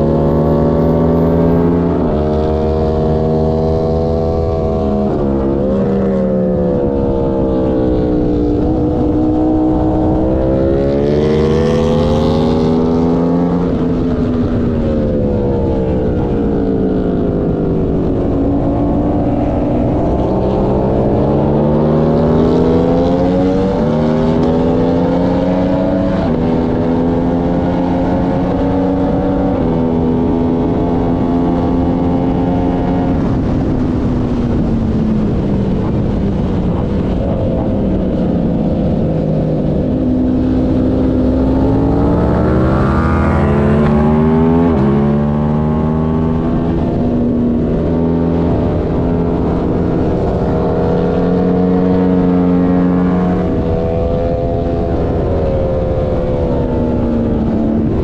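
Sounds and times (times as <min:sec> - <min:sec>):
motorcycle engine revving with upshifts: 0:00.0 - 0:58.0.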